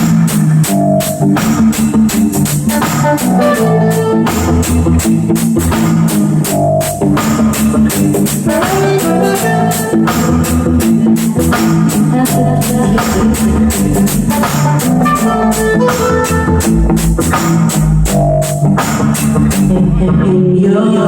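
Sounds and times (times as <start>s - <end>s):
drum kit beat: 0.0s - 20.2s.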